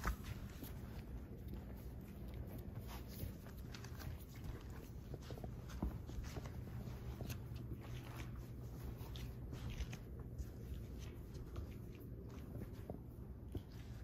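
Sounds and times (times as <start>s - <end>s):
puppy paws tapping and scratching: 0.0s - 14.0s.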